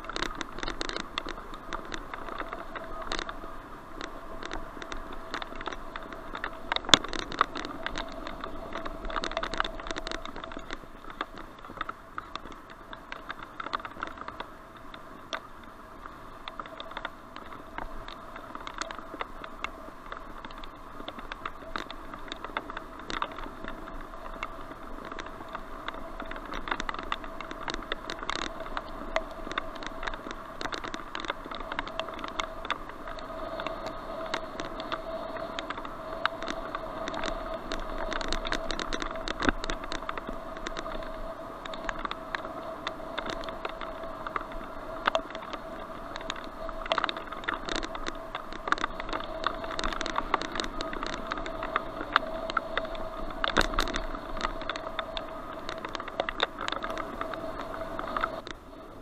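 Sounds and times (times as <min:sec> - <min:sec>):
bicycle clicks and rattles: 0:00.0 - 0:59.0
bicycle rolling on dirt: 0:00.0 - 0:59.0
faint steady whine: 0:00.0 - 0:59.0
wind noise: 0:00.0 - 0:59.0.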